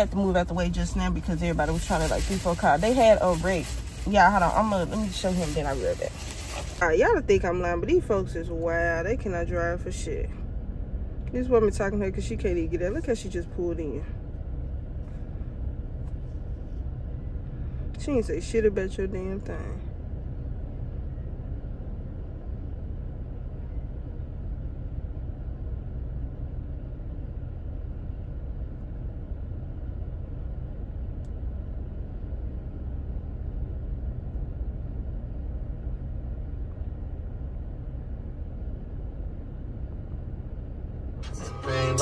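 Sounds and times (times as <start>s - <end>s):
air conditioning running: 0.0s - 42.0s
car engine idling: 0.0s - 42.0s.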